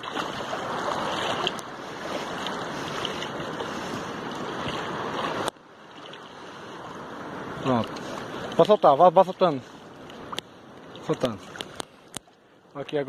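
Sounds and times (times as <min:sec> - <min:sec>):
seawater sloshing around wading person: 0:00.0 - 0:12.1
faint water splashes: 0:00.0 - 0:13.0.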